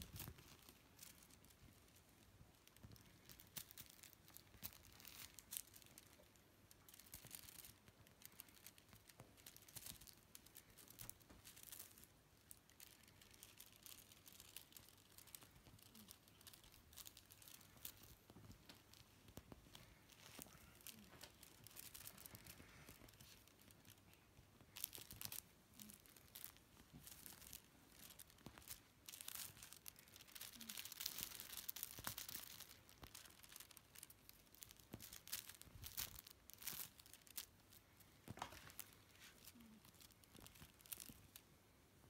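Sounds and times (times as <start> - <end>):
kittens' claws scratching blanket: 0.0 - 41.4.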